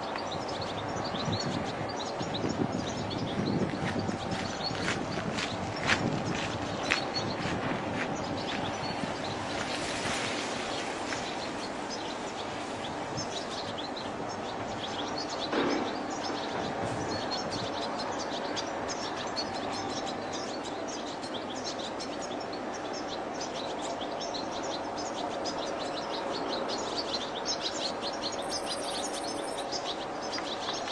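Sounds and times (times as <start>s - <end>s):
goldfinch twittering song: 0.0s - 30.9s.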